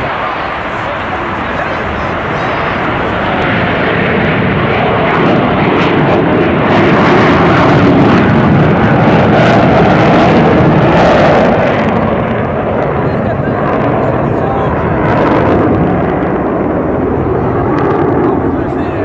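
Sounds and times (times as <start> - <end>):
jets flying past roaring: 0.0 - 19.0.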